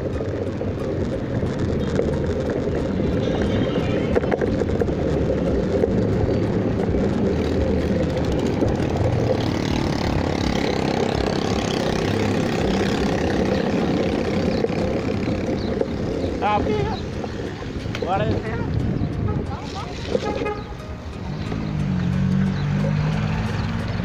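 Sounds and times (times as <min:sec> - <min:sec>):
road noise: 0:00.0 - 0:24.0
wind buffeting microphone: 0:00.0 - 0:24.0.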